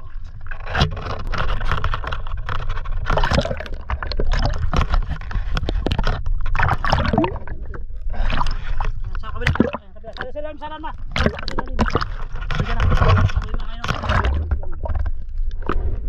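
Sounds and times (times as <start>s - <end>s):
water splashing against boat hull: 0.0s - 16.0s.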